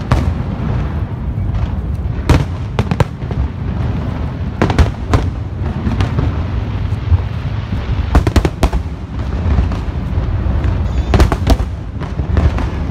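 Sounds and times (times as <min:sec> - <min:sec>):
continuous low rumble: 0:00.0 - 0:12.9.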